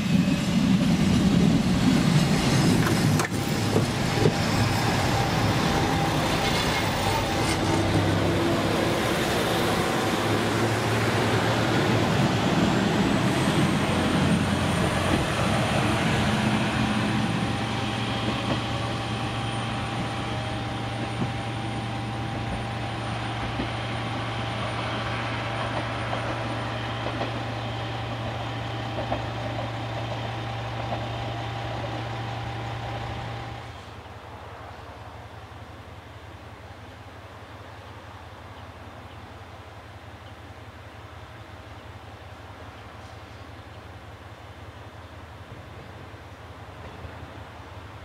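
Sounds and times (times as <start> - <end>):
diesel railcar pulling away: 0.0 - 48.0.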